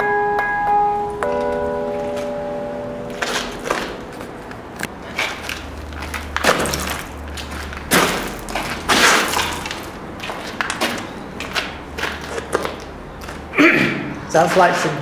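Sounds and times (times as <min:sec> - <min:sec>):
footsteps on gritty floor: 0:01.2 - 0:13.5, 0:14.4 - 0:15.0.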